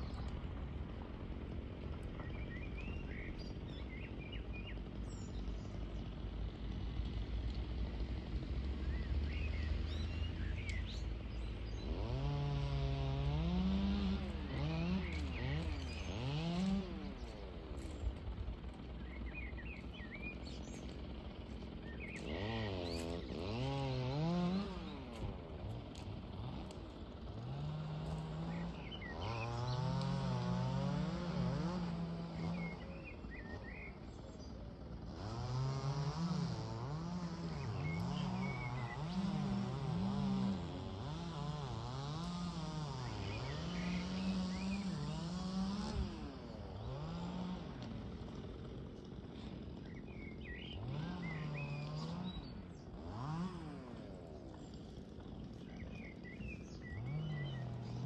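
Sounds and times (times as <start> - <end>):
birds chirping: 0.0 - 58.0
small engine revving: 0.0 - 58.0.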